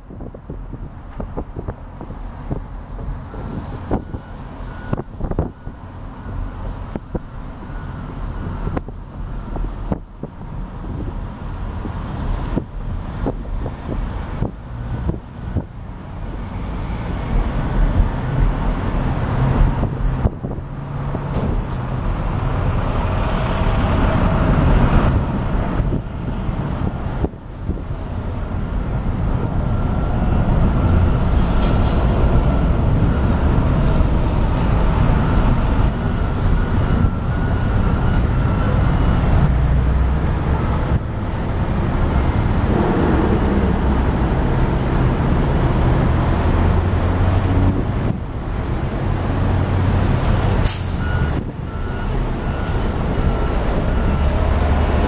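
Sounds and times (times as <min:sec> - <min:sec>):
heavy vehicles rumbling: 0:00.0 - 0:55.0.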